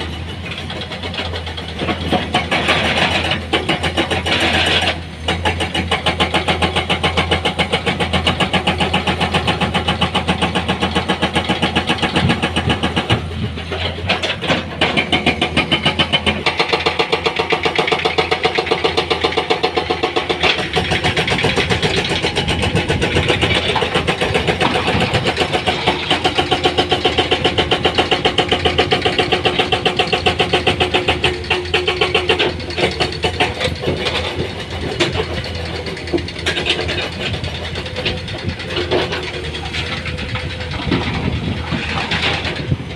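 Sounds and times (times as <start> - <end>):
diesel engine running loudly: 0.0 - 42.9.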